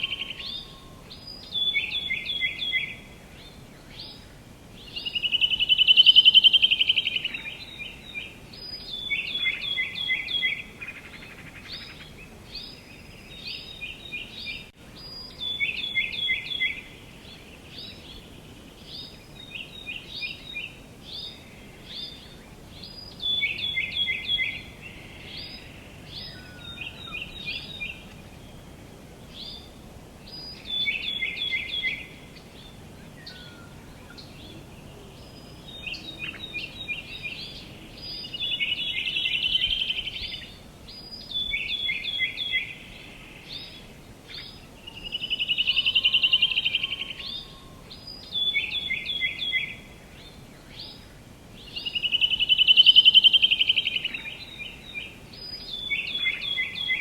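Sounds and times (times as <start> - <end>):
faint outdoor hiss: 0.0 - 57.0
songbirds chirping and trilling: 0.0 - 57.0.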